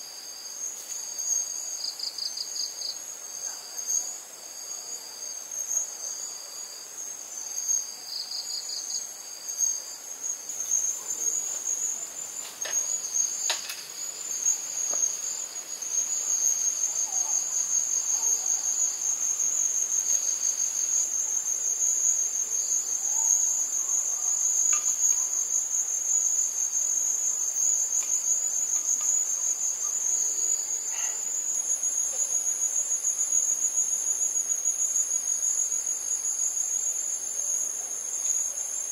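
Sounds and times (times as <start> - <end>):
crickets trilling: 0.0 - 38.9
pulsing insect trill: 0.0 - 38.9.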